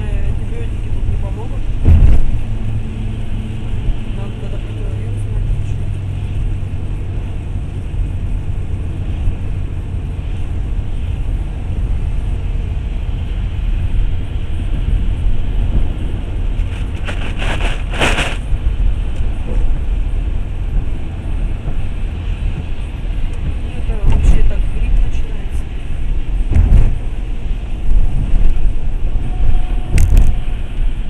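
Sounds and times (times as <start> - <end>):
road and engine rumble in car: 0.0 - 31.0.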